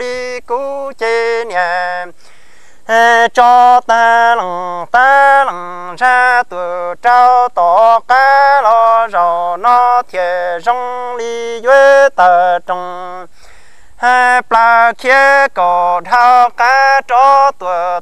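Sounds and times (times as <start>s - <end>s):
solo voice singing: 0.0s - 2.2s, 2.8s - 13.4s, 14.0s - 18.0s.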